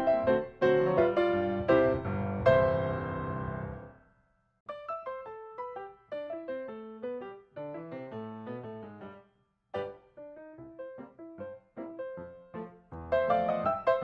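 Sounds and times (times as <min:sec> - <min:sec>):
piano playing: 0:00.0 - 0:04.0, 0:04.7 - 0:09.2, 0:09.8 - 0:14.0.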